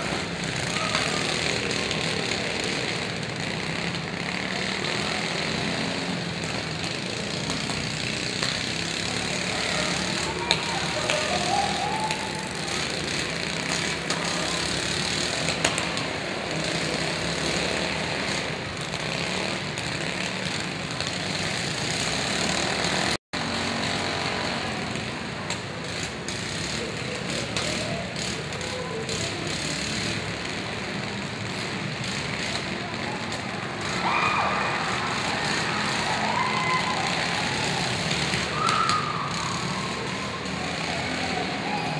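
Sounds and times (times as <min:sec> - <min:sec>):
lawn mower engines running: 0:00.0 - 0:41.9.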